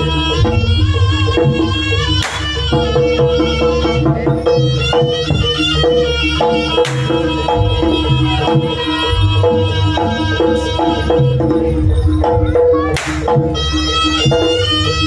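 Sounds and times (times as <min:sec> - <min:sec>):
hand drums driving rhythm: 0:00.0 - 0:15.0.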